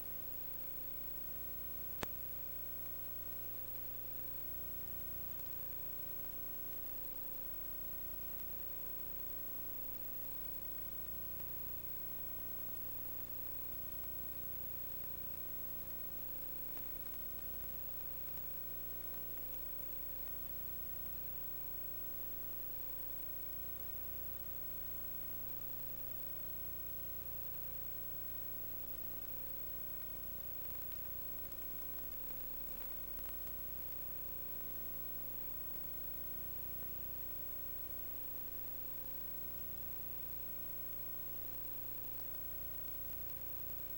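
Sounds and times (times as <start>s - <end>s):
electrical hum and hiss: 0.0s - 43.9s.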